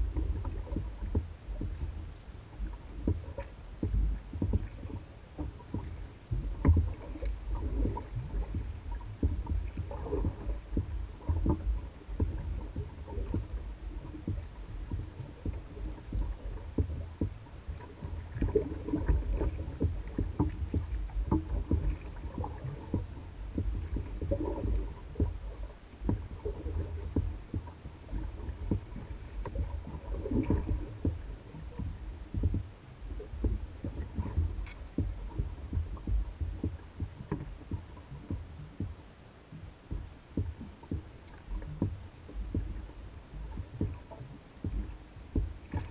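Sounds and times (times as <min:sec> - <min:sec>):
low rumble: 0:00.0 - 0:45.9
water lapping against canoe hull: 0:00.0 - 0:45.9
water sloshing: 0:00.0 - 0:45.9.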